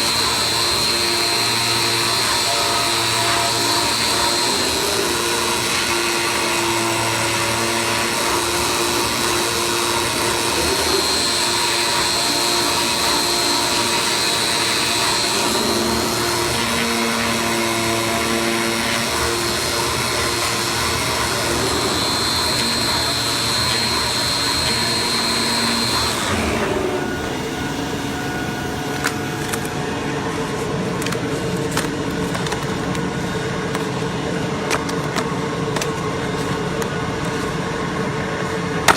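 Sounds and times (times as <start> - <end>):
cutting machine hiss: 0.0 - 38.9
whining motor: 0.0 - 38.9.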